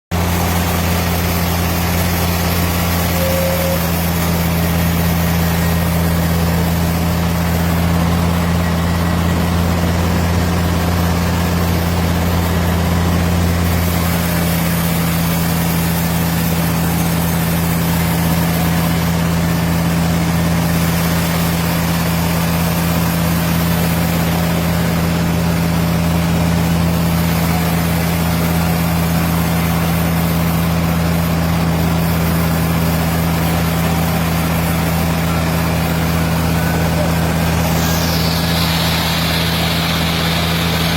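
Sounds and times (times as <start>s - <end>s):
wood saw engine humming: 0.1s - 40.9s.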